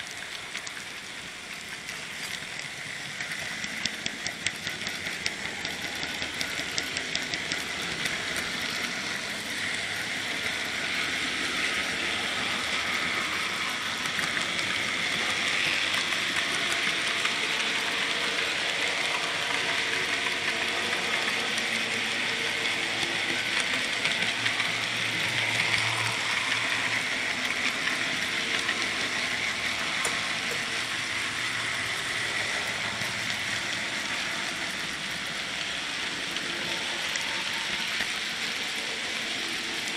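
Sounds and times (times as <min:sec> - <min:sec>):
model train whirring on rails: 0:00.0 - 0:39.9.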